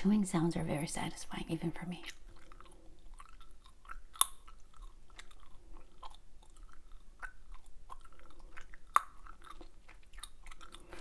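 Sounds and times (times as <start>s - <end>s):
wet gum chewing: 2.0s - 11.0s.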